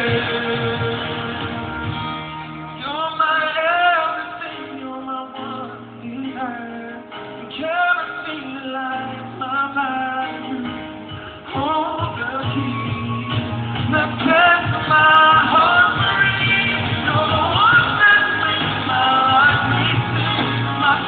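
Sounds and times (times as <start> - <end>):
man singing: 0.0 - 1.8, 2.8 - 21.0
guitar accompaniment: 0.0 - 21.0.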